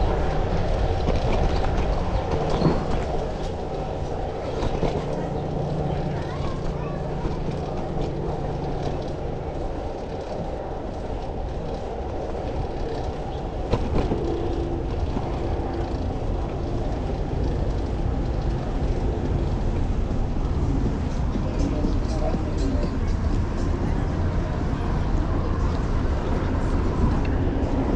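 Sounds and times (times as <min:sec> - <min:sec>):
wind and road noise: 0:00.0 - 0:27.9.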